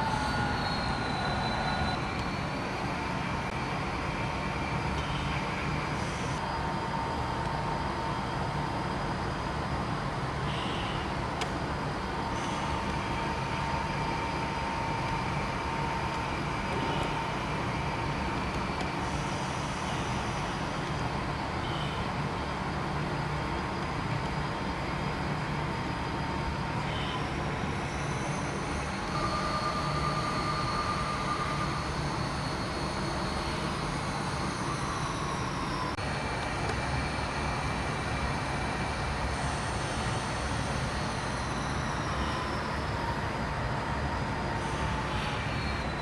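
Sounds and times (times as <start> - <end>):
thin steady whine: 0.0 - 46.0.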